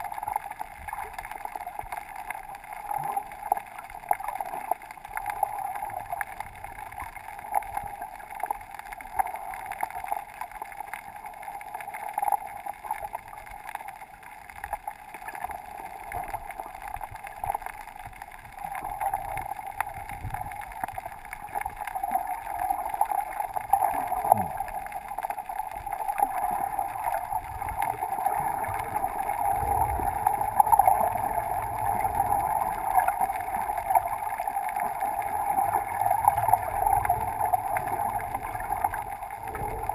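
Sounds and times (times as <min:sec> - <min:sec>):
muffled underwater wash: 0:00.0 - 0:39.9
small crackles: 0:00.0 - 0:39.9.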